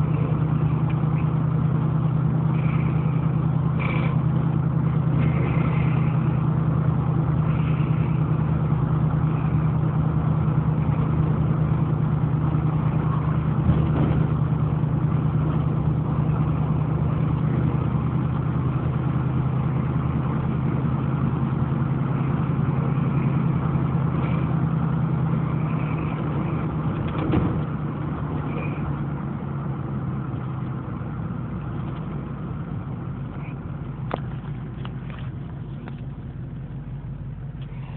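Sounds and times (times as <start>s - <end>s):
low mechanical hum: 0.0s - 37.9s.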